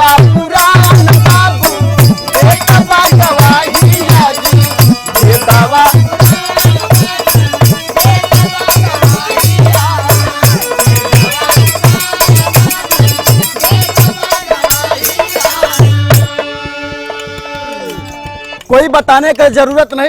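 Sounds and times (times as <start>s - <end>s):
drum beating fast rhythm: 0.0s - 18.9s
jingling percussion: 0.0s - 20.0s.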